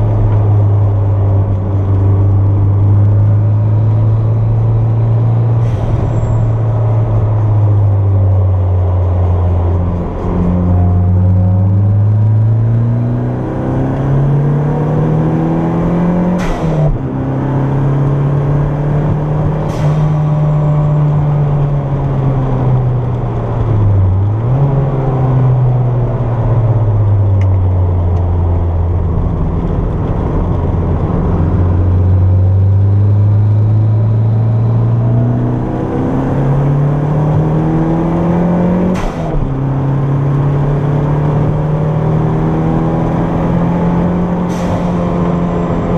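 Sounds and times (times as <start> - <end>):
car engine under throttle: 0.0 - 45.9.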